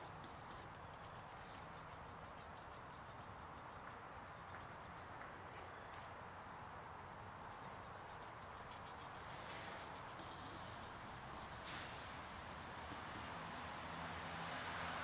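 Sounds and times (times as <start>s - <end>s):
squirrel gnawing a nut: 0.0s - 6.1s, 7.3s - 15.0s
steady hiss: 0.0s - 15.0s.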